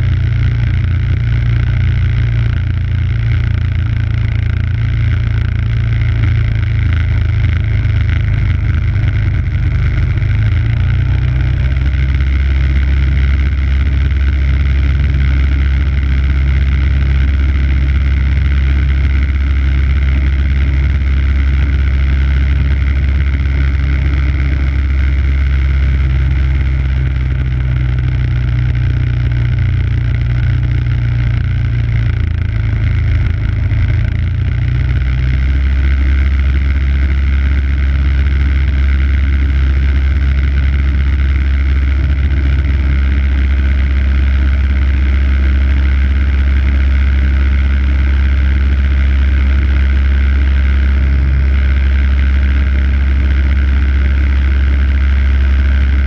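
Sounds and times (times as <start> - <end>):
snow blower engine running: 0.0 - 56.0.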